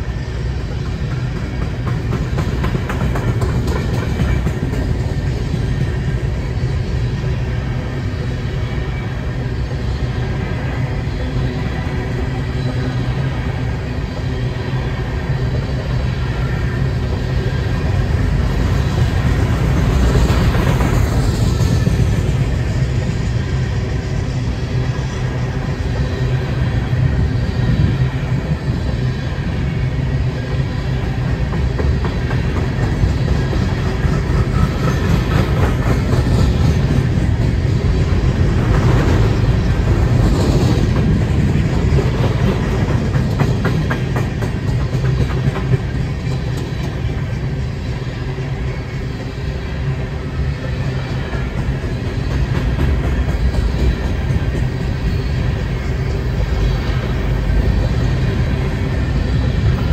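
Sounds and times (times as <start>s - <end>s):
clickety-clack over rail joints: 0.0s - 59.9s
steel wheels rumbling on rail: 0.0s - 59.9s.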